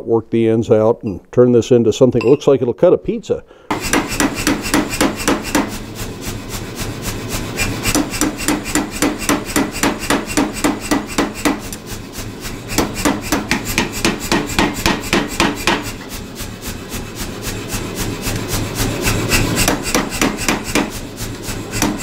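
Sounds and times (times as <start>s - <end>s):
machine hum: 3.7s - 22.0s
power hammer striking hot steel: 3.7s - 22.0s.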